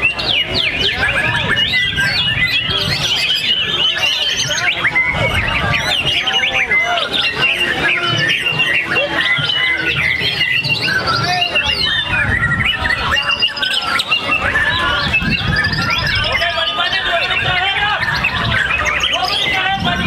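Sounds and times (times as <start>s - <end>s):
birds singing whistles and chirps: 0.0s - 20.0s.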